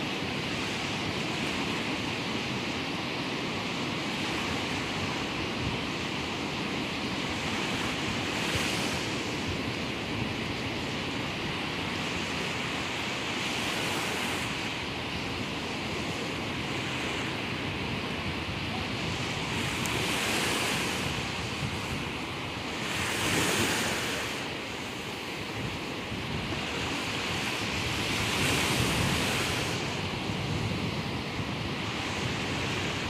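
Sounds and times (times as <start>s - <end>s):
ocean surf breaking on beach: 0.0s - 33.0s
wind buffeting microphone: 0.2s - 33.0s.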